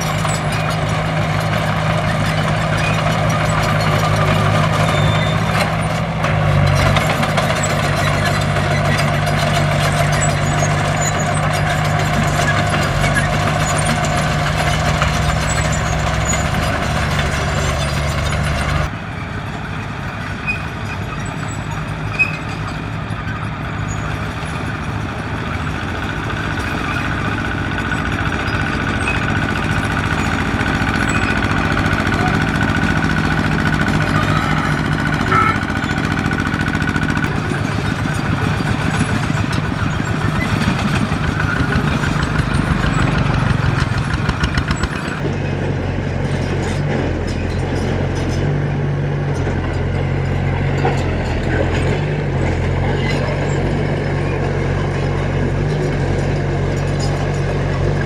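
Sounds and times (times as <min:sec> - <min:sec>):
earthmoving diesel engine running: 0:00.0 - 0:58.0.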